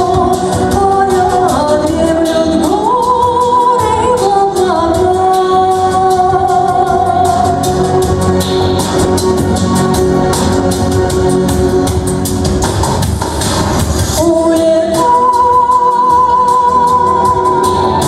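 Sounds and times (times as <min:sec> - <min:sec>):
steady percussion beat: 0:00.0 - 0:14.6.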